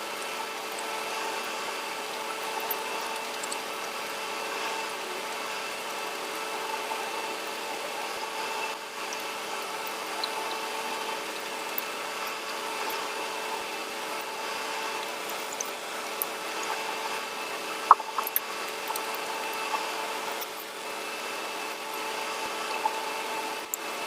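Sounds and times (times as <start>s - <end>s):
mechanical whirring hum: 0.0s - 24.0s.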